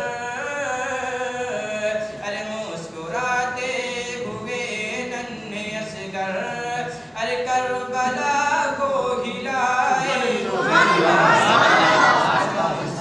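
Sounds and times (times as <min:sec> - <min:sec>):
man singing unaccompanied: 0:00.0 - 0:10.8.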